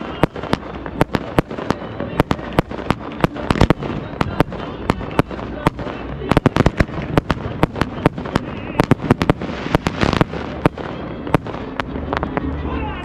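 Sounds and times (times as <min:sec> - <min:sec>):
fireworks bangs and cracks: 0:00.0 - 0:12.7
steady rushing noise: 0:00.0 - 0:13.0.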